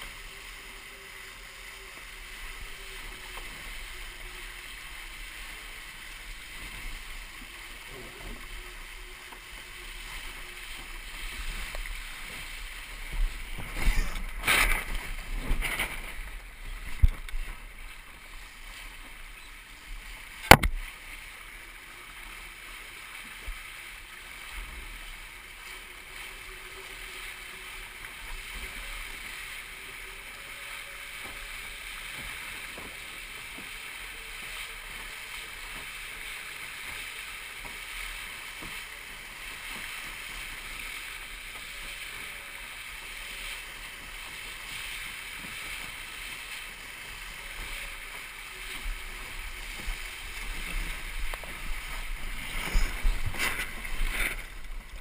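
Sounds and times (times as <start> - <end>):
knocks and splashes of a boat: 0.0 - 55.0
water rushing along a hull: 0.0 - 55.0.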